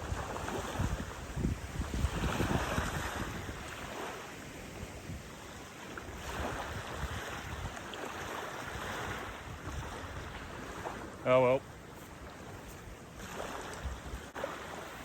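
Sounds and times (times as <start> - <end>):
water washing along shore: 0.0 - 15.0
wind on microphone: 0.0 - 15.0.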